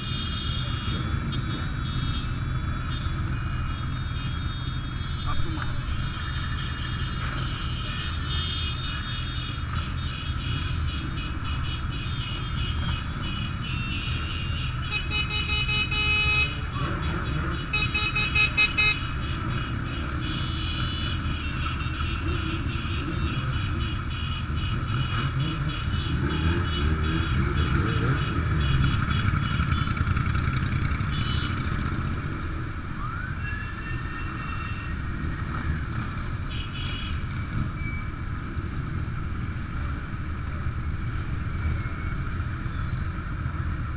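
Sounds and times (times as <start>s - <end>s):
horns honking: 0.0s - 32.1s, 33.4s - 37.6s
motorcycle engines rumbling: 0.0s - 43.9s.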